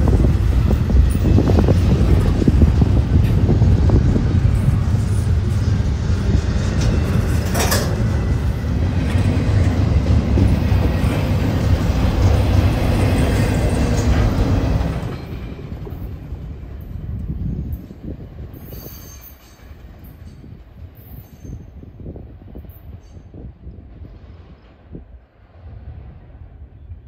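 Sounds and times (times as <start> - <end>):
rattling train cars: 0.0 - 26.6
train wheels rumbling on rail: 0.0 - 27.0.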